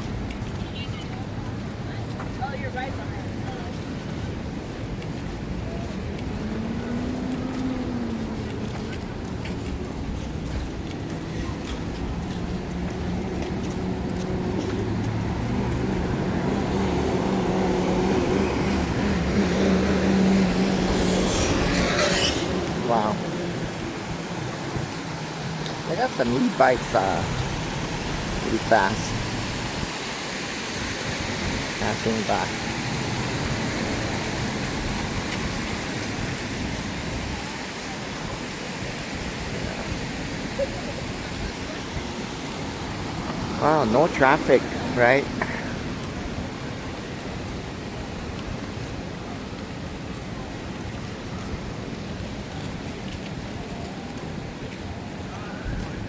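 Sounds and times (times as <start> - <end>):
steady rushing outdoor noise: 0.0 - 56.0
street traffic: 0.0 - 56.0
vehicle engine approaching: 2.4 - 56.0.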